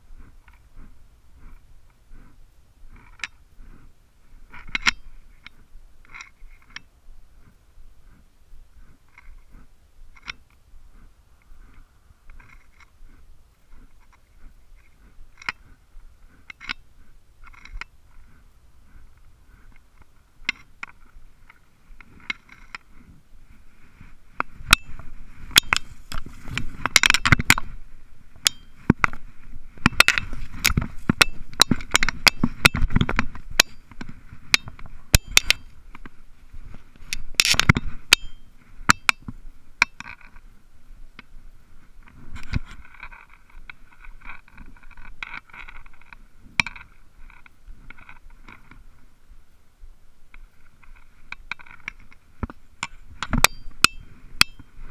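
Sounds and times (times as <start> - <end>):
dry brush crackling against clothing: 0.0 - 54.9.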